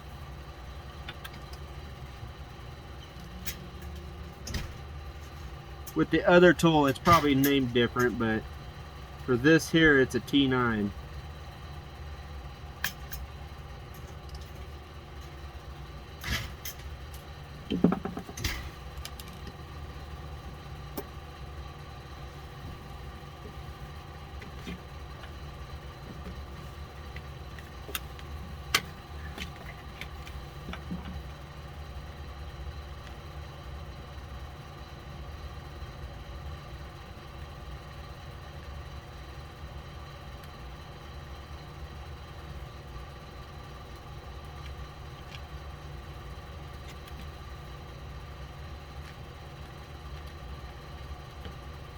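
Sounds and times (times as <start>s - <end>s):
low mechanical hum: 0.0s - 51.9s.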